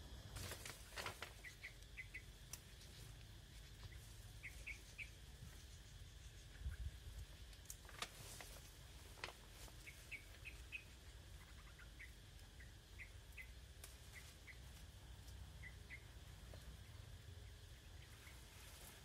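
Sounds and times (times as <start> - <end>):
small bird chirping: 0.4 - 7.7, 8.3 - 19.0.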